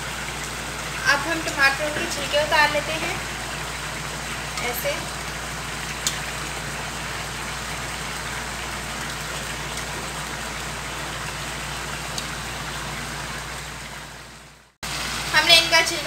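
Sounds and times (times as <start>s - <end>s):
food sizzling in oil: 0.0s - 13.8s, 14.8s - 16.0s.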